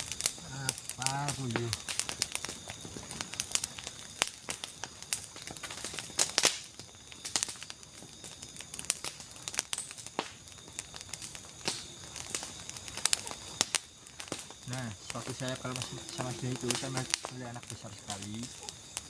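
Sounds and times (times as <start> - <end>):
crinkling and crackling clicks: 0.0 - 19.0.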